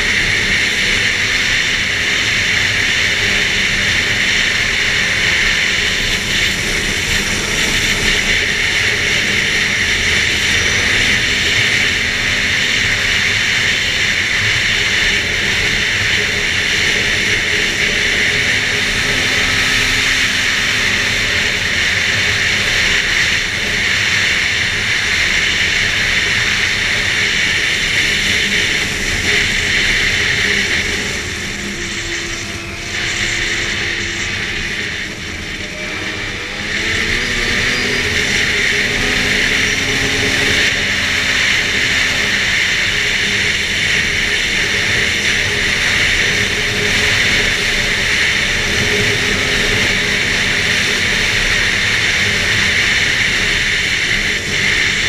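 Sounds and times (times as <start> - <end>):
snowmobile engine running hard: 0.0 - 55.0.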